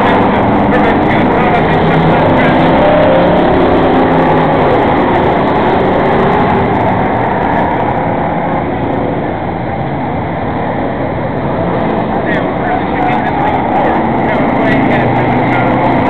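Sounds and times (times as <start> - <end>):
stock car engines passing: 0.0 - 16.0.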